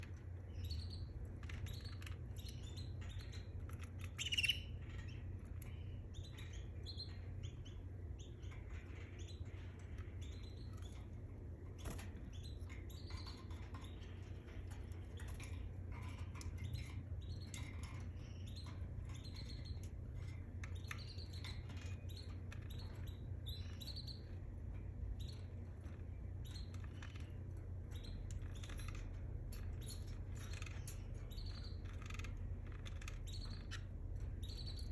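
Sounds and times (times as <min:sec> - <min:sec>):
canary chirping and trilling: 0:00.0 - 0:34.9
steady low hum: 0:00.0 - 0:34.9.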